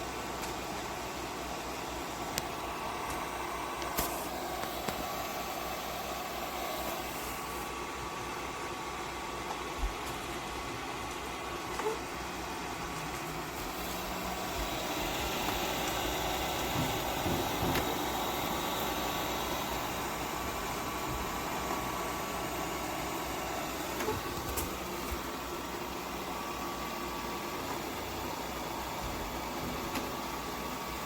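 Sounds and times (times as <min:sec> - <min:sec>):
robot vacuum running: 0:00.0 - 0:31.0.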